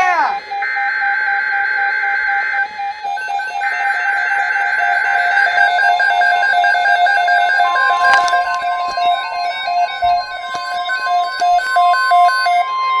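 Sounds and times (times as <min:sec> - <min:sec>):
electronic alert beeping tones: 0:00.0 - 0:12.7
raspy buzzing data bursts: 0:00.0 - 0:12.7.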